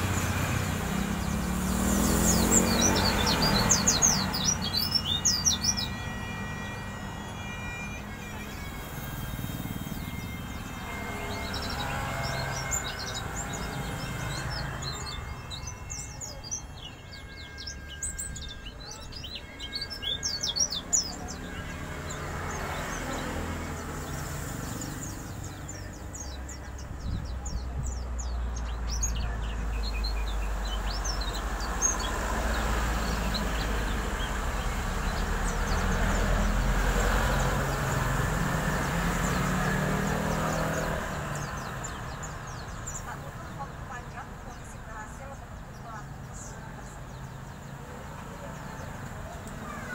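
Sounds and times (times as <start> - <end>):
bird twittering high chirps: 0.0 - 49.9.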